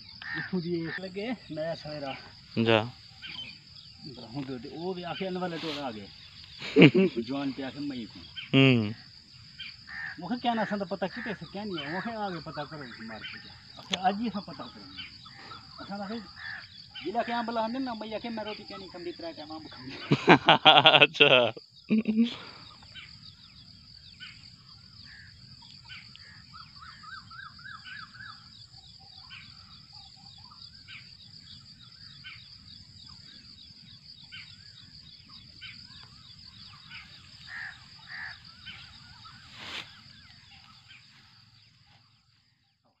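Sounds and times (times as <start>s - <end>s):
high-pitched insect drone: 0.0s - 42.4s
birds chirping: 0.0s - 43.0s.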